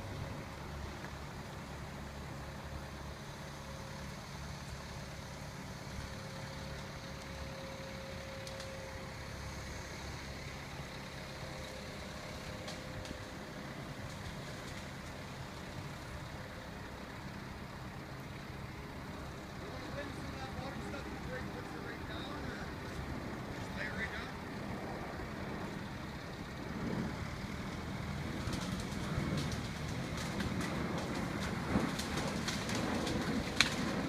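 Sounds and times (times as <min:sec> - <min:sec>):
diesel engine running: 0:00.0 - 0:34.0
faint steady whine: 0:00.0 - 0:34.0.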